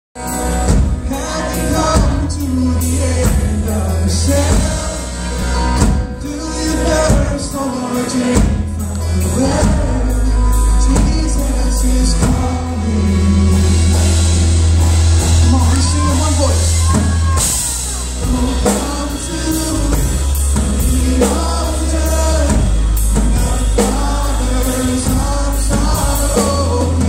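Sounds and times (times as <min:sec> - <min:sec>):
bass and drum hits: 0:00.2 - 0:27.0
man singing lead: 0:00.2 - 0:27.0
worship band playing: 0:00.2 - 0:27.0.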